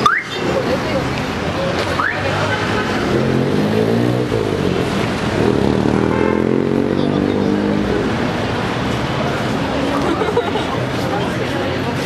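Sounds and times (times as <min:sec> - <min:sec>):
car engine passing: 0:01.4 - 0:11.8.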